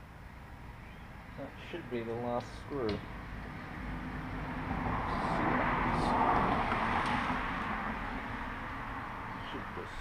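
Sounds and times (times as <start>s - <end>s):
engine noise: 0.0s - 10.0s.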